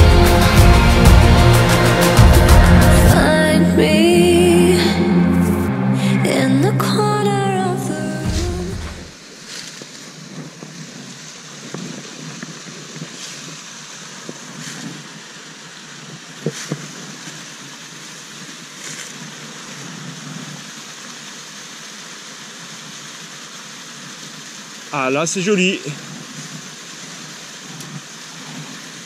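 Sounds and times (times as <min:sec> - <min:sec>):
small waterfall rushing: 0:00.0 - 0:04.5, 0:06.2 - 0:29.0.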